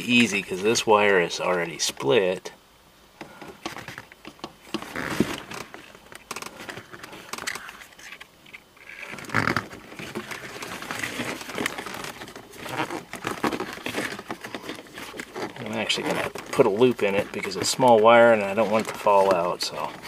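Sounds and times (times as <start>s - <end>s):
wire handling rustling and scraping: 3.2s - 20.0s.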